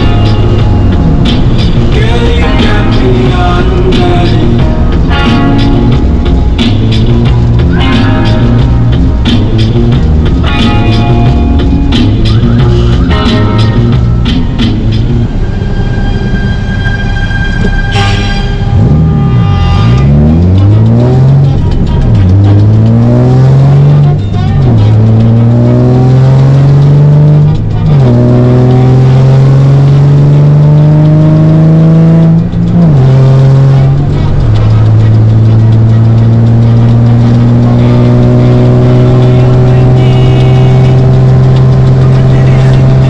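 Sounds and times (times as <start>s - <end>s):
car engine accelerating through gears: 0.0s - 15.6s, 18.6s - 43.0s.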